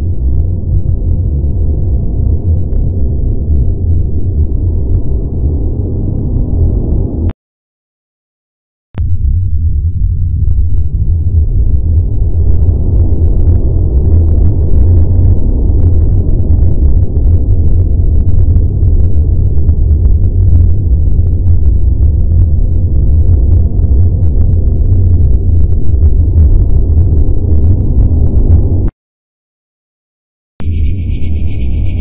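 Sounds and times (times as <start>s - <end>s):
deep spaceship rumble: 0.0s - 7.3s, 9.0s - 28.9s, 30.6s - 32.0s
faint crackle: 0.0s - 7.3s, 9.0s - 28.9s.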